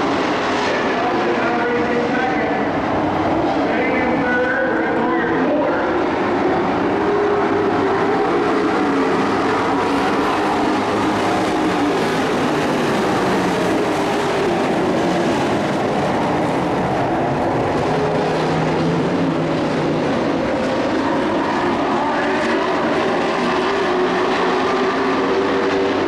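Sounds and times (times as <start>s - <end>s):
race truck engines droning: 0.0s - 26.0s.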